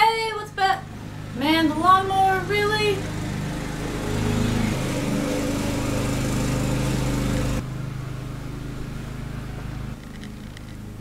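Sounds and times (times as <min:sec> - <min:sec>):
lawn mower engine running: 0:00.8 - 0:11.0.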